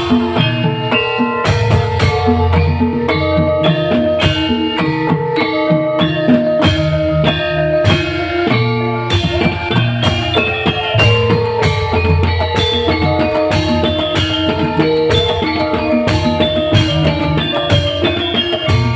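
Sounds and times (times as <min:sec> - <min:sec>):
steady drum beat: 0:00.0 - 0:18.9.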